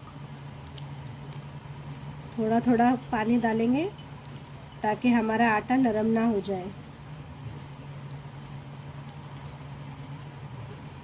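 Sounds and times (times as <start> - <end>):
fingers kneading dough: 0.0 - 11.0
steady low hum: 0.0 - 11.0.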